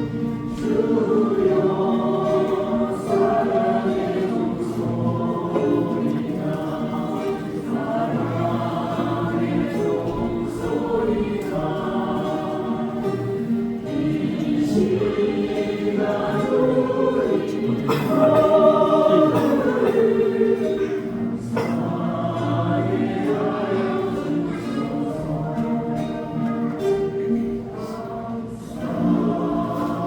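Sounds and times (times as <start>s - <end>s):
group singing gospel song: 0.0s - 30.0s
music accompaniment: 0.0s - 30.0s.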